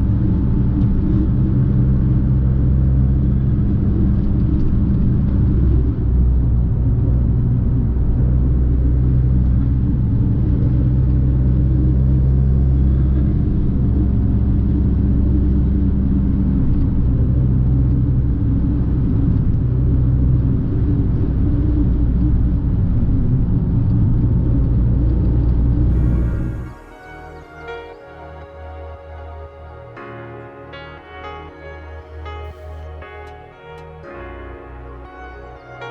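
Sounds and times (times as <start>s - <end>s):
car engine and exhaust rumble: 0.0s - 29.9s
road noise: 0.0s - 35.9s.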